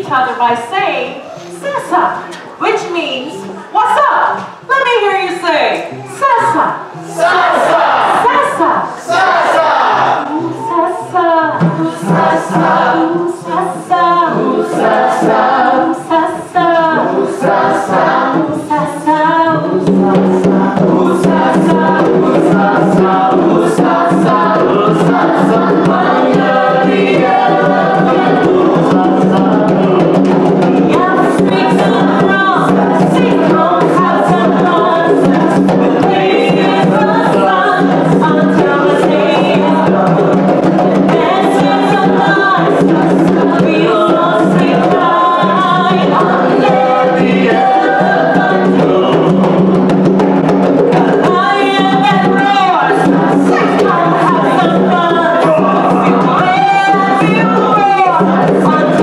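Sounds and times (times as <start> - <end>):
djembe hand drum: 5.9 - 59.0
group singing chant-like song: 6.8 - 59.0.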